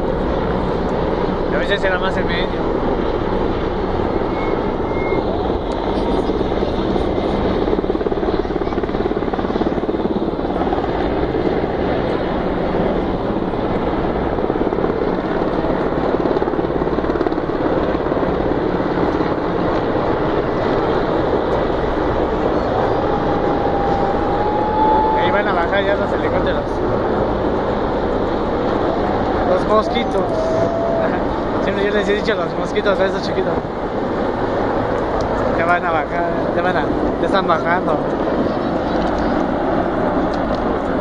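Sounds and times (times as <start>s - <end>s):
helicopters rumbling overhead: 0.0s - 41.0s.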